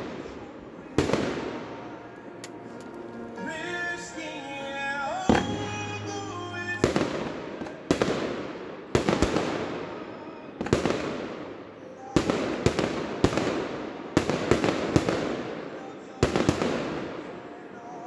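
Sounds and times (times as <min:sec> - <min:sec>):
fireworks bangs: 0:00.0 - 0:17.7.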